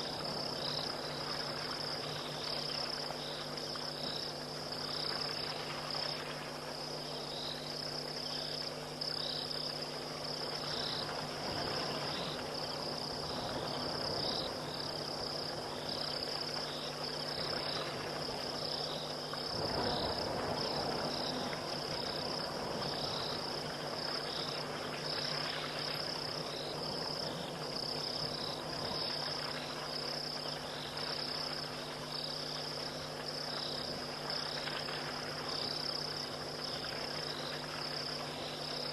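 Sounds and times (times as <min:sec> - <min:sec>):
crickets trilling: 0:00.0 - 0:38.9
insect chirping in pulses: 0:00.0 - 0:38.9
low steady hum: 0:00.0 - 0:38.9.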